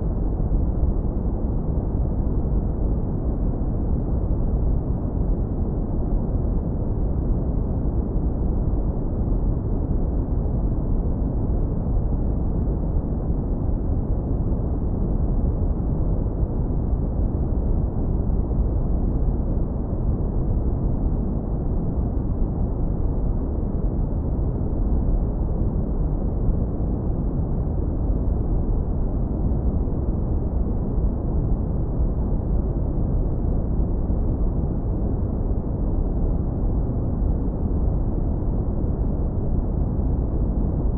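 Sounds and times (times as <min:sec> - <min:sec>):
deep brown noise rumble: 0:00.0 - 0:40.9.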